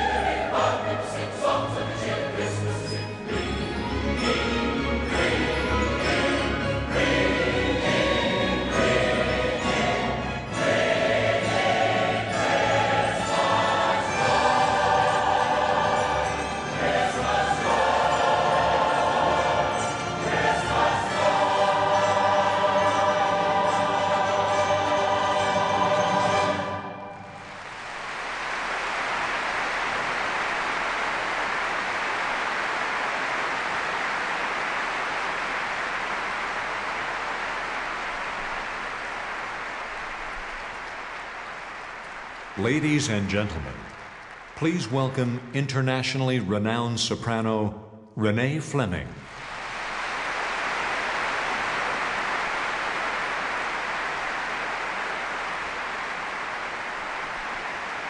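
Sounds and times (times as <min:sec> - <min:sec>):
audience applauding: 0:07.0 - 0:46.1, 0:49.2 - 0:58.0.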